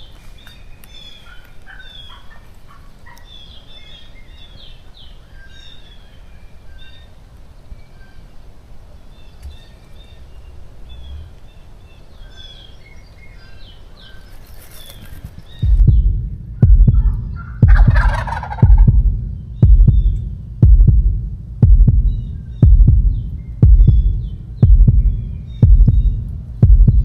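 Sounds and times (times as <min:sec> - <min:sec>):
turkeys calling: 0:00.0 - 0:07.2, 0:09.1 - 0:20.6, 0:21.2 - 0:27.0
birdsong: 0:00.0 - 0:27.0
low rumble of wind: 0:00.0 - 0:27.0.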